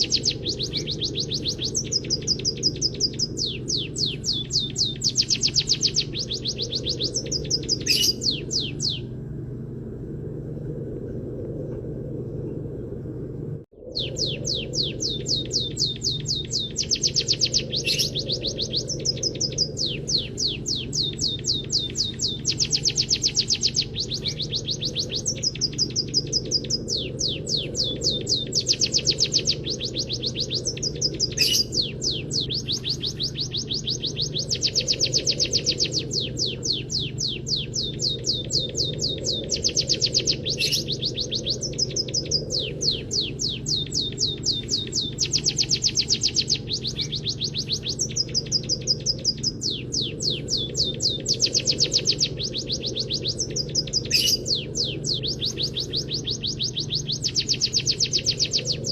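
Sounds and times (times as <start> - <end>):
munia singing trills: 0.0 - 58.9
steady low hum: 0.0 - 58.9.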